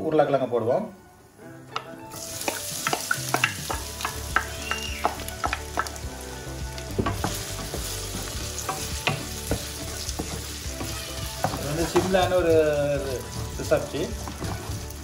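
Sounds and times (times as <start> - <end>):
wooden spatula clacking and scraping: 1.8 - 6.1, 6.7 - 15.0
potatoes sizzling in oil: 2.0 - 15.0.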